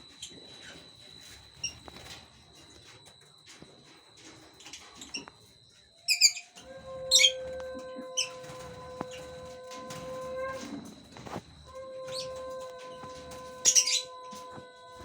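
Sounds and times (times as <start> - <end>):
hum of held tones: 0.0 - 15.0.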